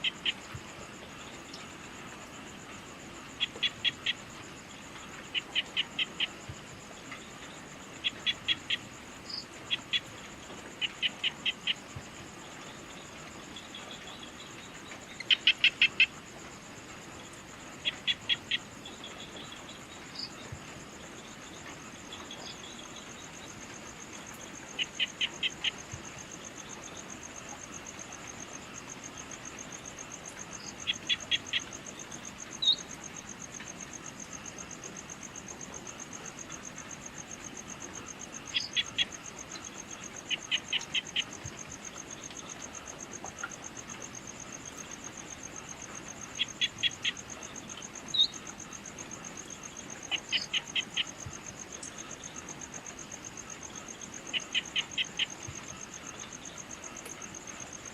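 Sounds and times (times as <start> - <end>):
insect trill: 0.0 - 57.9.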